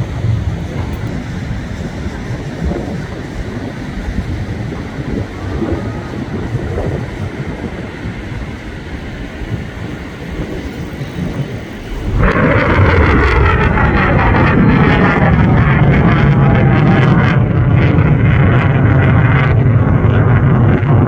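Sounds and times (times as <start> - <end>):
jet engine rumbling: 0.0 - 21.0.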